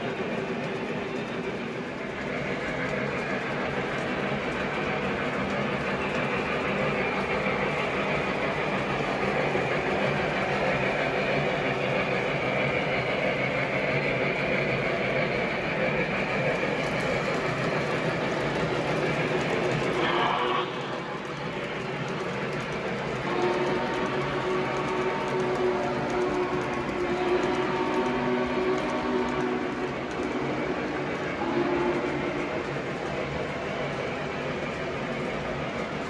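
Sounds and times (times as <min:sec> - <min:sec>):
model train motor and wheels: 0:00.0 - 0:36.0.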